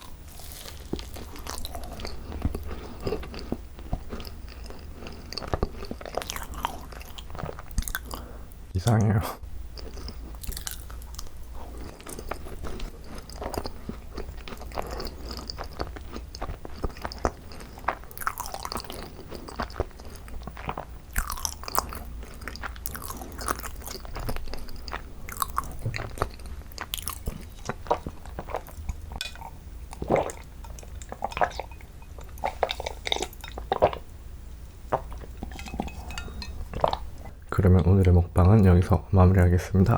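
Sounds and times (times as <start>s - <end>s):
chewing crunchy food: 0.0s - 8.6s, 9.7s - 34.2s, 34.8s - 39.0s.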